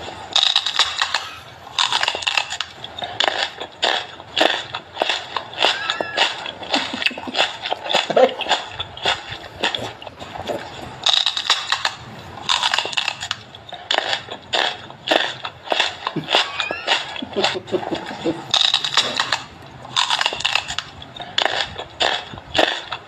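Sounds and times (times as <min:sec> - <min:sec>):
crunchy food chewing: 0:00.0 - 0:23.0.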